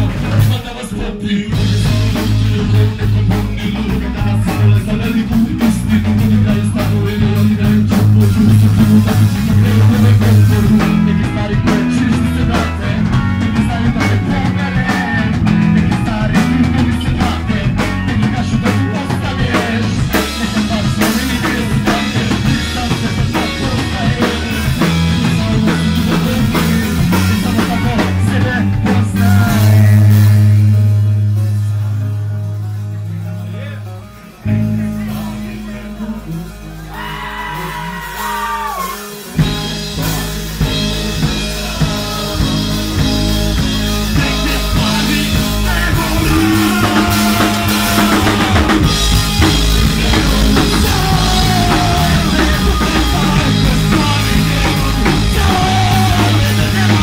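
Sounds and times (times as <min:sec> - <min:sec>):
person singing into microphone: 0:00.0 - 0:32.1, 0:33.0 - 0:57.0
drum kit: 0:00.0 - 0:57.0
electric bass: 0:00.0 - 0:57.0.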